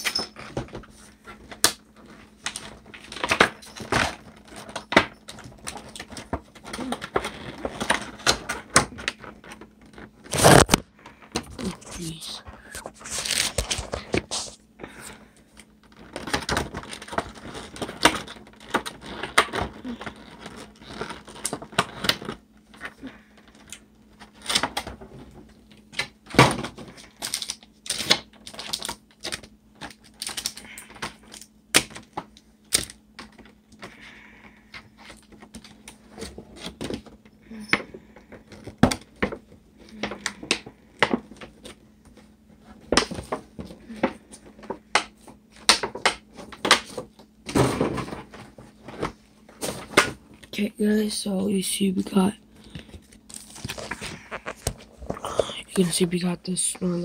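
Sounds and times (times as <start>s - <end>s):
cardboard and plastic packaging rustling: 0.0s - 57.0s.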